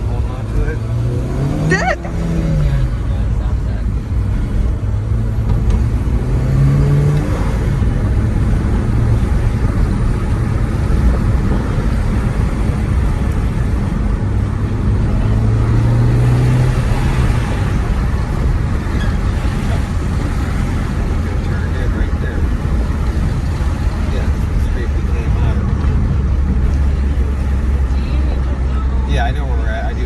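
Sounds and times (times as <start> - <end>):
car engine accelerating: 0.0 - 30.0
road and wind noise: 0.0 - 30.0.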